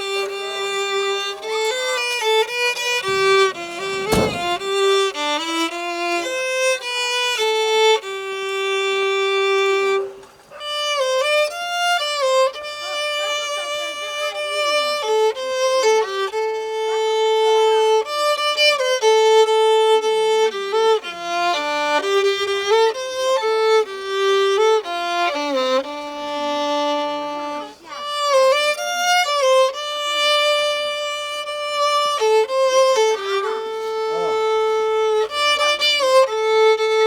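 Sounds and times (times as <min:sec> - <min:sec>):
solo violin melody: 0:00.0 - 0:10.1, 0:10.8 - 0:12.8, 0:13.4 - 0:37.0.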